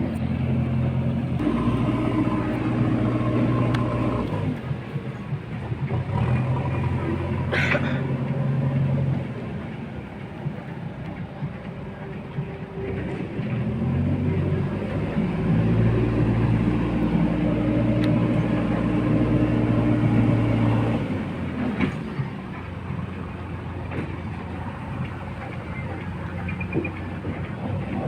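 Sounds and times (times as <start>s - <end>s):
backhoe diesel engine under load: 0.0s - 28.0s.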